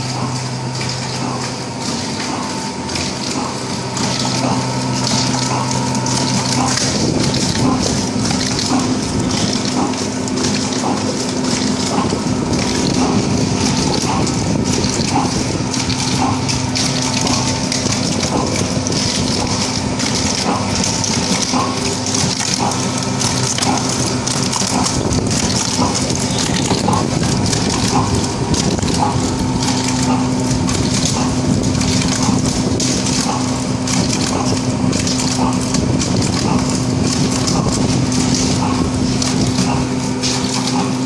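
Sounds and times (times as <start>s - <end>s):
packing machine motor hum: 0.0s - 41.0s.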